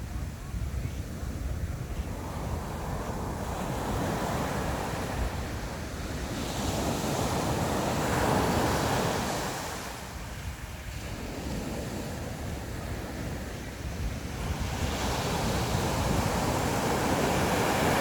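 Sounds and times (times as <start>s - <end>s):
sea waves washing ashore: 0.0s - 18.0s
wind rumbling on microphone: 0.0s - 18.0s.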